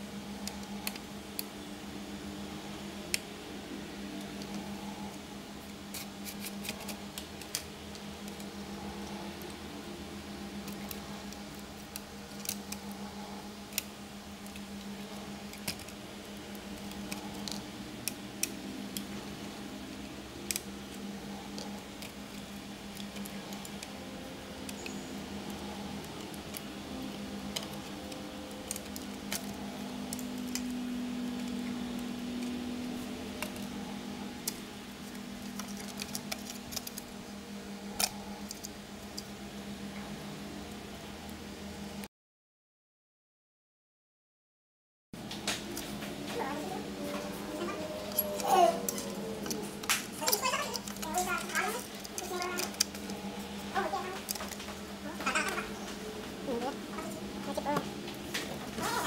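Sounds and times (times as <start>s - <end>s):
steady low hum: 0.0s - 42.1s, 45.2s - 59.0s.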